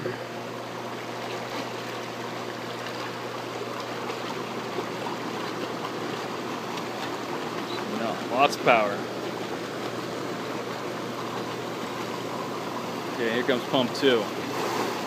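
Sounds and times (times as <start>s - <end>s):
hot tub jets churning water: 0.0s - 15.0s.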